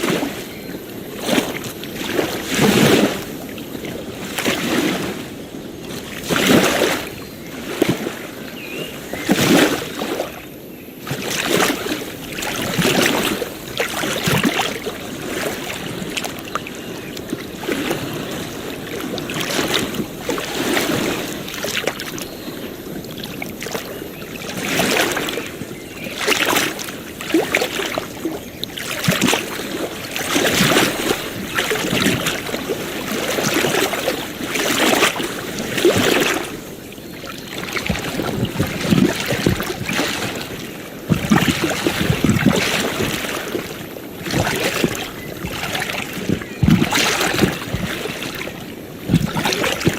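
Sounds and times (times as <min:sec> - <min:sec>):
small waves lapping on beach: 0:00.0 - 0:49.9.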